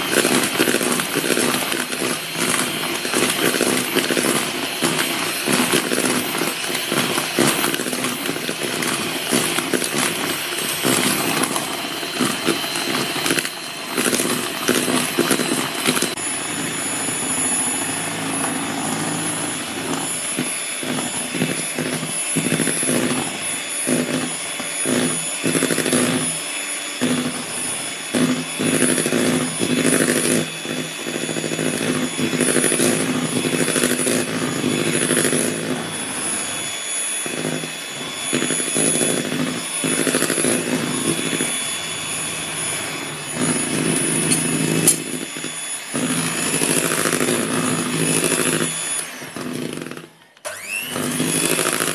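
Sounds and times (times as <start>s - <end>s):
electric hand mixer whipping: 0.0s - 51.9s.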